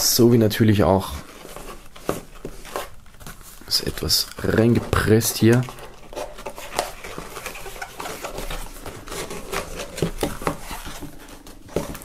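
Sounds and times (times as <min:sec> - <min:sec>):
paper and cardboard rustling: 0:01.0 - 0:12.0.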